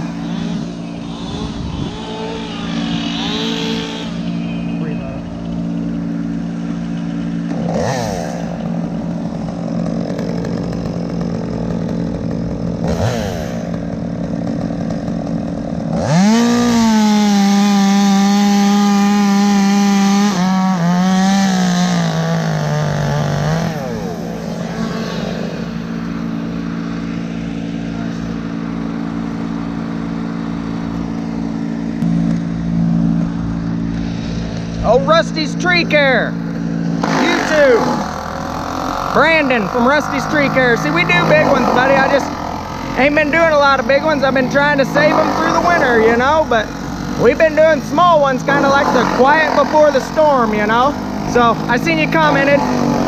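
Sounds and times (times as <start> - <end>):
chainsaw revving and idling: 0.0 - 53.0.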